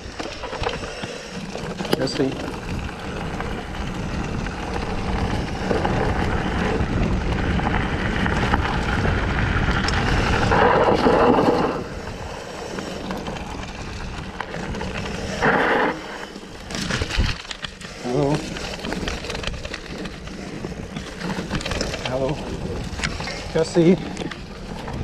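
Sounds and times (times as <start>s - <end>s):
bike tyres rolling on dirt: 0.0s - 25.0s
wind on microphone: 0.0s - 25.0s.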